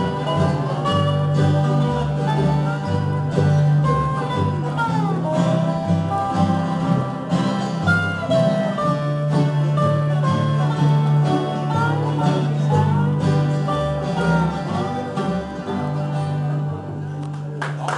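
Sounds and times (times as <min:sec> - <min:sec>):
banjo picking: 0:00.0 - 0:17.6
bass line: 0:00.0 - 0:17.6
guitar picking: 0:00.0 - 0:17.6
dobro: 0:00.0 - 0:17.9
mandolin: 0:00.0 - 0:17.9.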